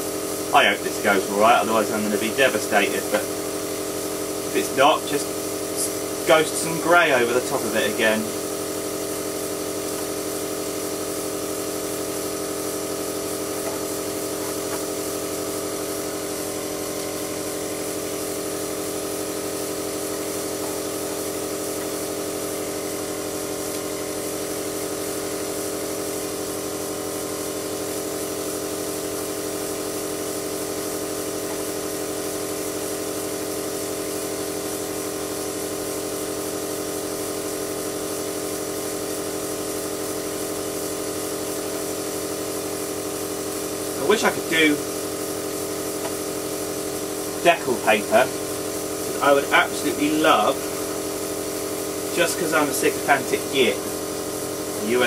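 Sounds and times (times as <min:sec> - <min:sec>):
airbrush compressor humming: 0:00.0 - 0:55.0.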